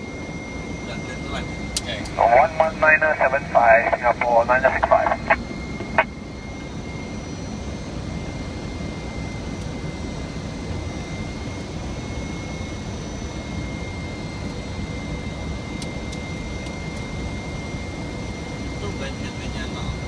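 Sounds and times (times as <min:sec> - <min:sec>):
airflow and jet engine rumble: 0:00.0 - 0:20.0.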